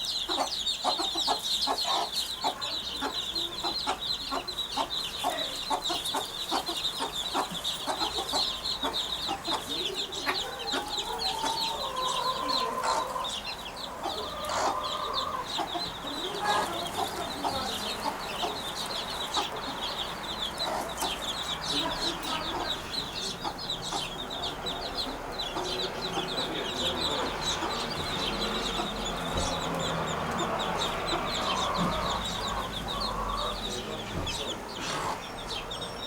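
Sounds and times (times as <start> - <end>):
birds chirping: 0.0 - 36.0
clucking bird calls: 0.0 - 36.0.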